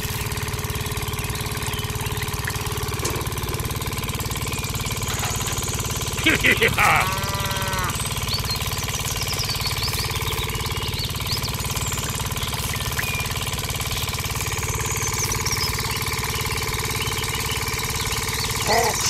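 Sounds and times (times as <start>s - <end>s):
birds chirping faintly: 0.0s - 19.0s
small engine knocking: 0.0s - 19.0s.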